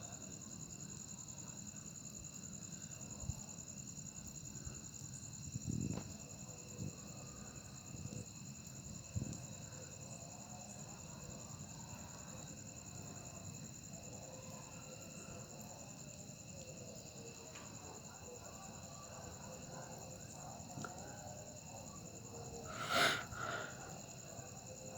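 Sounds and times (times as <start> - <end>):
cricket trill: 0.0 - 24.9.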